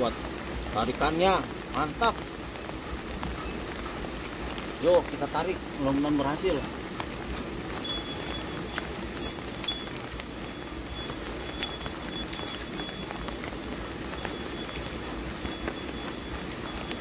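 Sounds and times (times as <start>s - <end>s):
light rain pattering: 0.0s - 17.0s
raindrops tapping close by: 0.0s - 17.0s.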